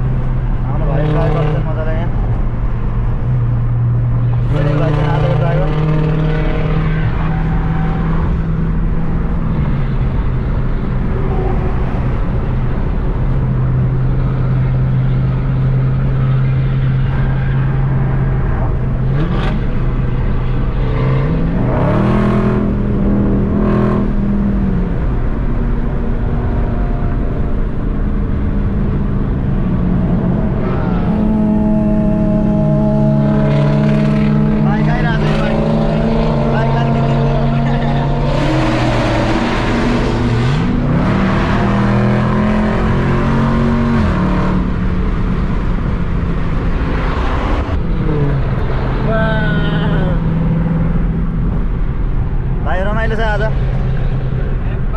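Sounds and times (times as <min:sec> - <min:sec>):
car engine revving: 0:00.0 - 0:54.9
road and wind noise: 0:00.0 - 0:54.9.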